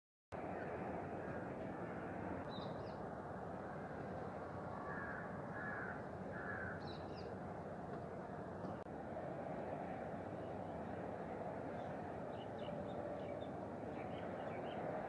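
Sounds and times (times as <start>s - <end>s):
outdoor background noise: 0.3s - 15.0s.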